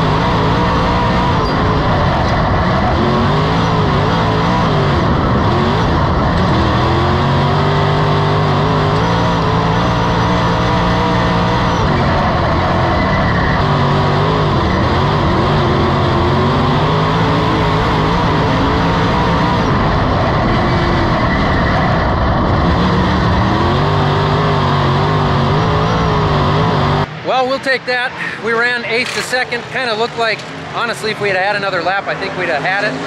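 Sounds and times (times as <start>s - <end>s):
race car engine at speed: 0.0s - 33.0s.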